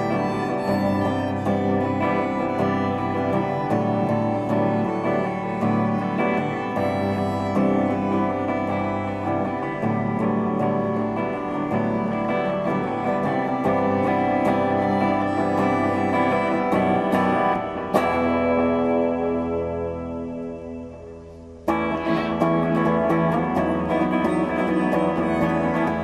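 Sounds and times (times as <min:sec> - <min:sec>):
picked guitar notes: 0:00.0 - 0:26.0
violin: 0:00.0 - 0:26.0.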